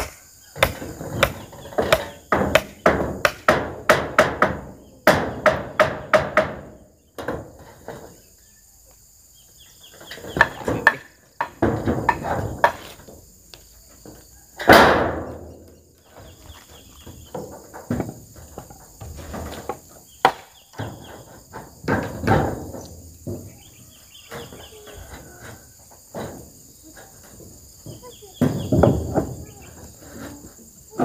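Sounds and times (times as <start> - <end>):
metal roofing sheets banging: 0.0 - 8.3, 9.9 - 13.2, 14.0 - 31.0
insects droning: 0.0 - 31.0.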